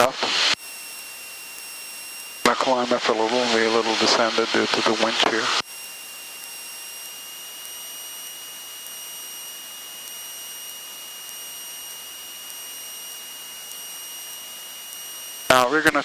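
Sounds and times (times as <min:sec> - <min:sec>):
thin high whine: 0:00.0 - 0:16.0.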